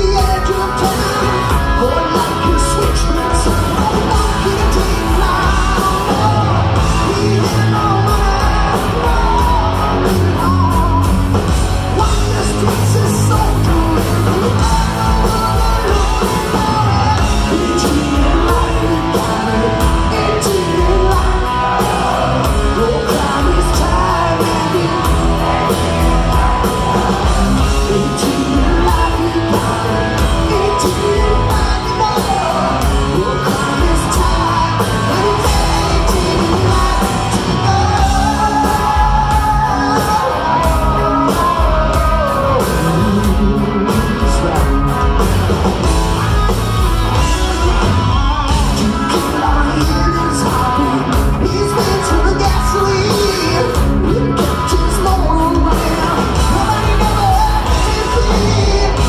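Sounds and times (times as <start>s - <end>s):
hard rock band playing live: 0.0s - 59.0s
lead singer vocals: 0.0s - 59.0s.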